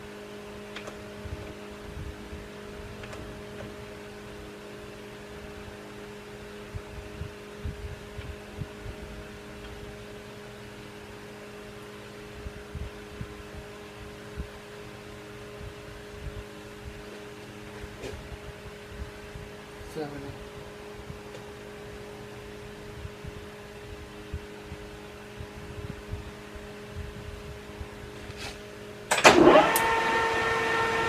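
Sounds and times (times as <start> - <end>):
machine hum with tones: 0.0 - 31.0.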